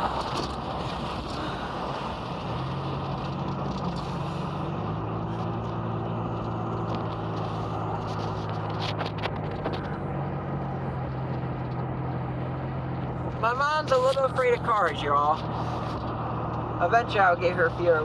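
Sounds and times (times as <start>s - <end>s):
car engine hum: 0.0s - 18.0s
road and tyre noise: 0.0s - 18.0s.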